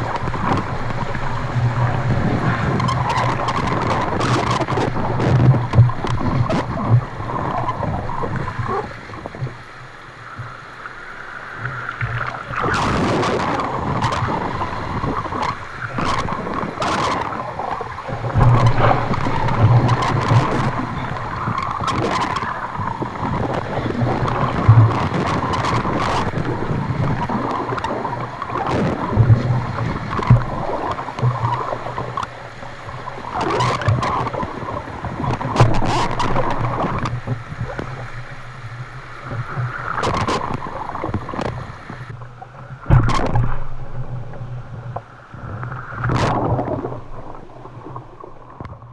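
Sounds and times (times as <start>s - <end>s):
whitewater rapids rushing: 0.0s - 42.2s
waves splashing on a canoe: 0.0s - 48.9s.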